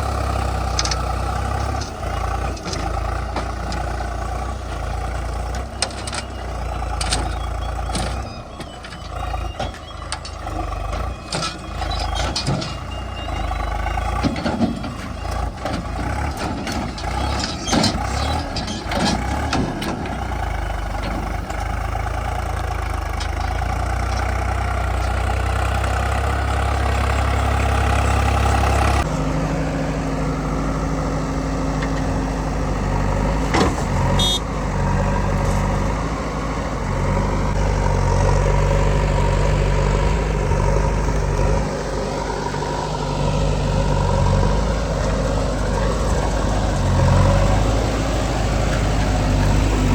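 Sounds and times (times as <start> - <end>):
heavy diesel machinery running: 0.0 - 49.9.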